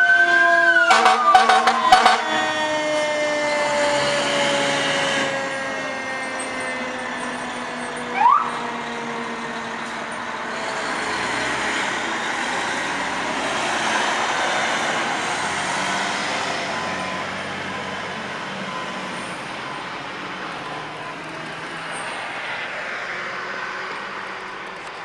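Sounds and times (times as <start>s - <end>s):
fire engine driving past: 0.0s - 25.0s.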